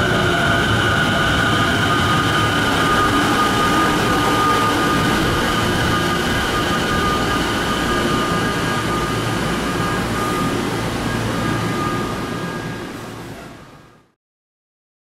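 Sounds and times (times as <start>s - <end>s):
high whining tones: 0.0s - 13.9s
train rail rumble: 0.0s - 14.1s.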